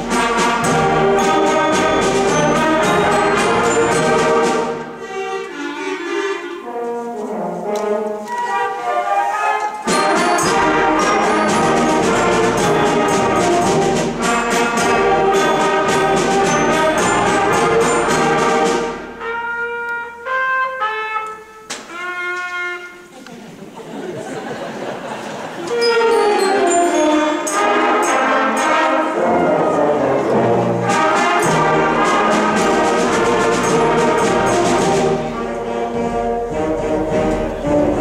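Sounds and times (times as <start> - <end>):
concert band playing: 0.0 - 38.0.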